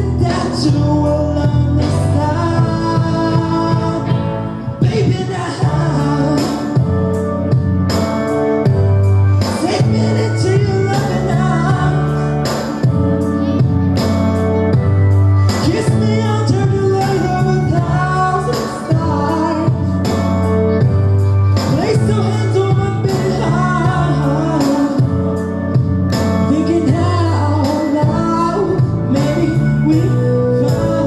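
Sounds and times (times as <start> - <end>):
man singing into a microphone: 0.0 - 7.6, 9.4 - 14.0, 15.5 - 21.0, 21.6 - 31.0
instrumental accompaniment: 0.0 - 31.0
steady bass line: 0.0 - 31.0.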